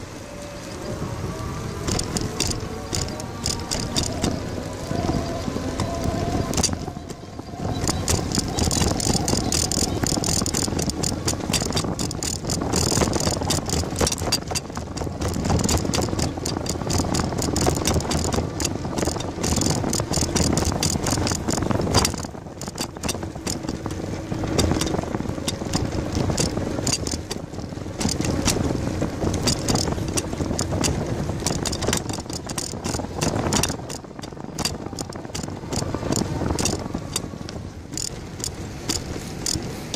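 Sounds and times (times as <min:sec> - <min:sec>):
bicycle rattling clatter: 0:00.0 - 0:39.9
tyre noise on pavement: 0:00.0 - 0:39.9.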